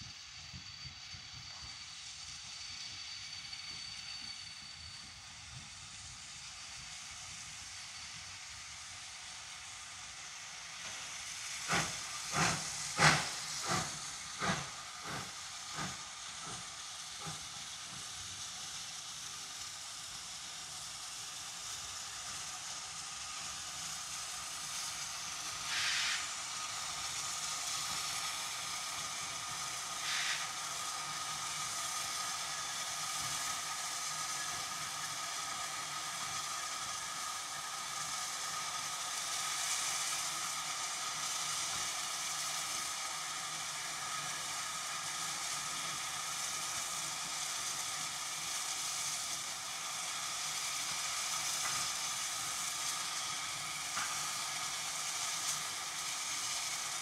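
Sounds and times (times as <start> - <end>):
bursts of escaping steam: 0.0 - 57.0
steady steam hiss: 0.0 - 57.0
steam locomotive exhaust chuffs: 0.0 - 57.0.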